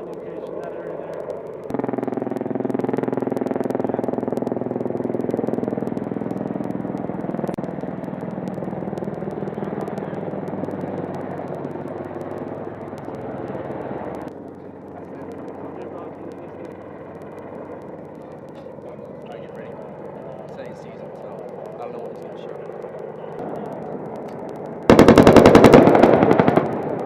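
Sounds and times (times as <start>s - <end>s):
helicopter turbine and rotor noise: 0.0s - 27.0s.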